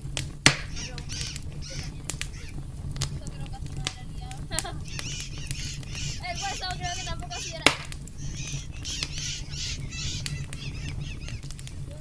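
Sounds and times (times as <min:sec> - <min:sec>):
low rumble: 0:00.0 - 0:12.0
sharp crack: 0:00.0 - 0:12.0
birds squawking: 0:00.5 - 0:12.0.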